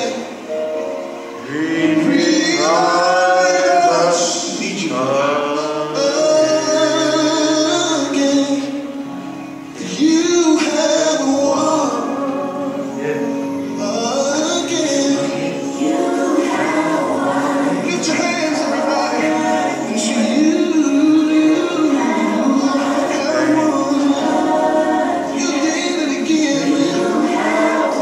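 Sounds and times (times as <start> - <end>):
man singing gospel song: 0.0 - 0.5, 1.4 - 9.1, 9.7 - 28.0
gospel music: 0.0 - 28.0.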